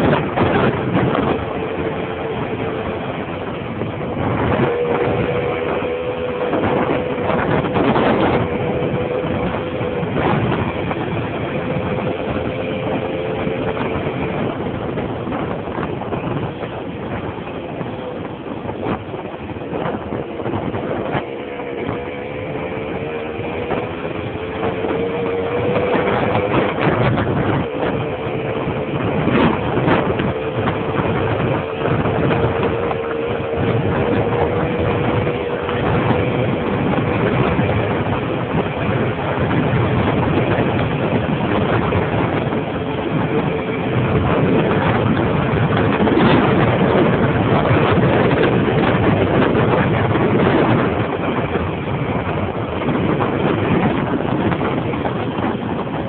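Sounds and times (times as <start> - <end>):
constant rushing noise: 0.0 - 56.0.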